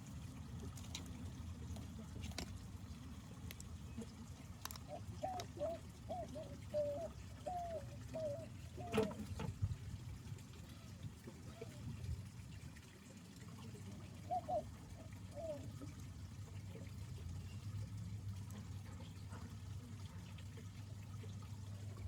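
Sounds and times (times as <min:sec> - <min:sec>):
pond water trickling: 0:00.0 - 0:22.0.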